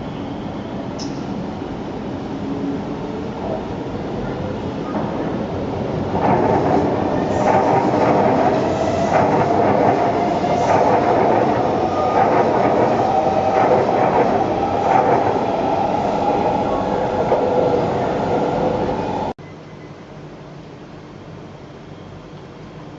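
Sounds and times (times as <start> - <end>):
train rumbling on track: 0.0 - 19.4.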